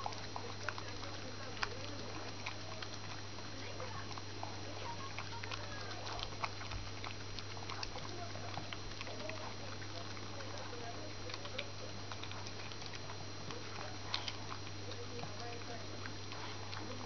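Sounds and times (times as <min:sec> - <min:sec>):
dog licking and chewing: 0:00.0 - 0:17.0.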